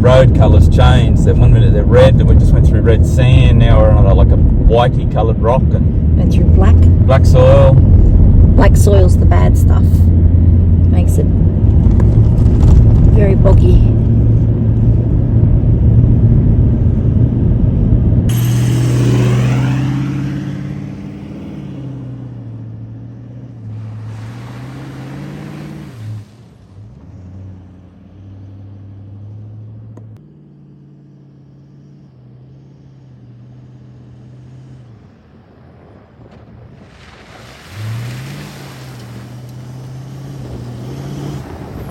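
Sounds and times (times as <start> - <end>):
road and tyre rumble: 0.0 - 41.9
vehicle engine humming: 0.0 - 41.9.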